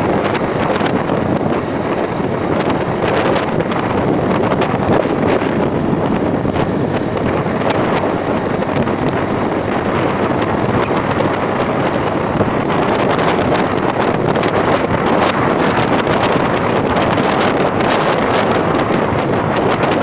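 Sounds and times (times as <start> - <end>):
vehicle running noise: 0.0 - 20.0
wind rushing over microphone: 0.0 - 20.0.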